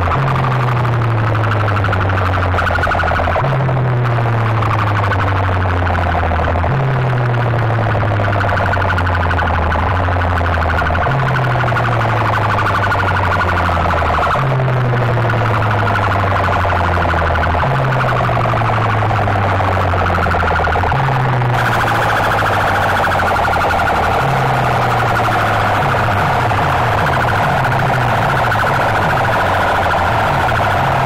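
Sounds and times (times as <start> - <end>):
electronic music over speakers: 0.0 - 31.0.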